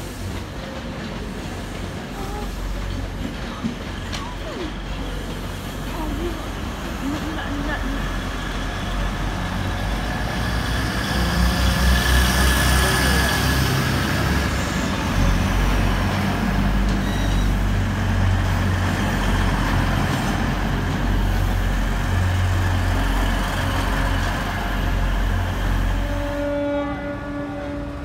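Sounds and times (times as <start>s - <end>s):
train passing rumble: 0.0s - 28.0s.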